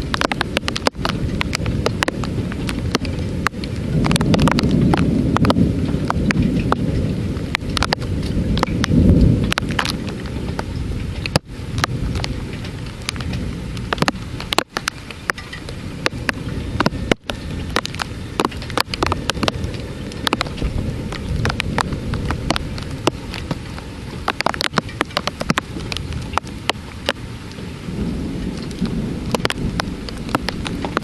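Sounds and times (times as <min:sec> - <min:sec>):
rain drops on hard surface: 0:00.0 - 0:31.0
thunder rumble: 0:00.0 - 0:31.0.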